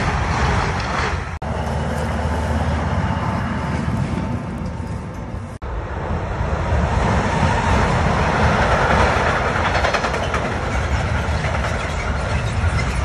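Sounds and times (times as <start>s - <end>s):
wheels clicking over rail joints: 0.0s - 5.6s, 7.8s - 13.0s
freight wagons rumbling past: 0.0s - 13.0s.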